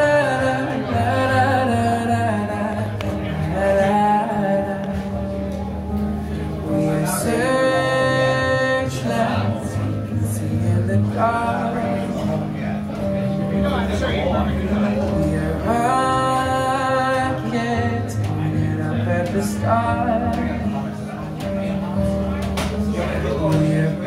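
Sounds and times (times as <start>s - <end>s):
pop song with singing: 0.0s - 24.0s.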